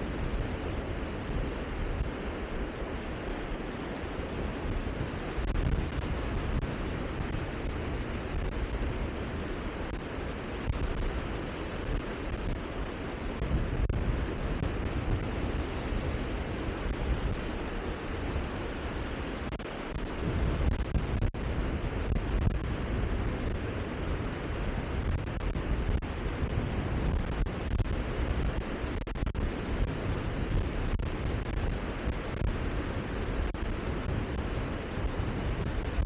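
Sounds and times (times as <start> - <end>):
rushing wind: 0.0 - 36.0
wind buffeting microphone: 0.0 - 36.0.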